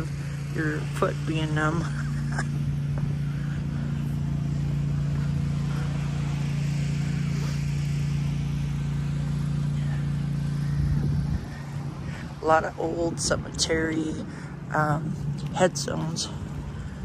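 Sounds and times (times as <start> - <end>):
deep rumble: 0.0 - 17.0
low mechanical hum: 0.0 - 17.0.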